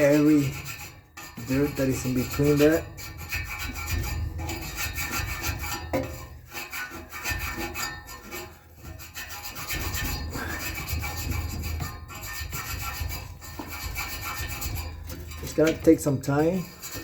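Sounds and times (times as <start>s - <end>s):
brush scrubbing fan blades: 0.0s - 17.0s.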